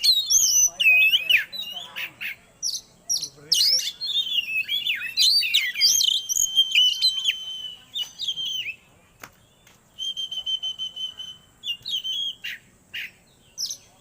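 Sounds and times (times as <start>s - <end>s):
songbird whistling and trilling: 0.0s - 14.0s.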